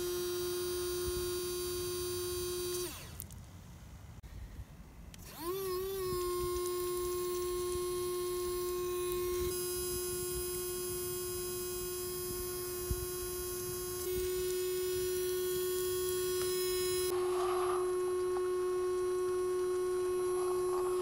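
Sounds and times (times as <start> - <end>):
small water pump humming: 0.0 - 3.3, 5.1 - 21.0.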